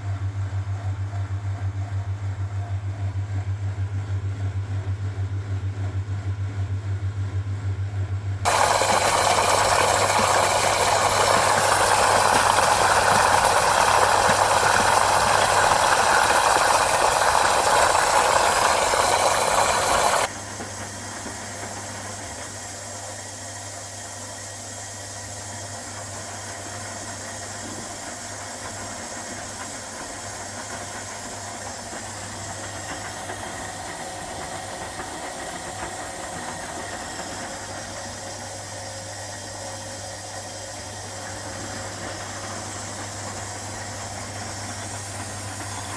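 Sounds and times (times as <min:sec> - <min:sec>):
washing machine mechanical hum: 0:00.0 - 0:45.9
washing machine rushing hiss: 0:08.5 - 0:45.9.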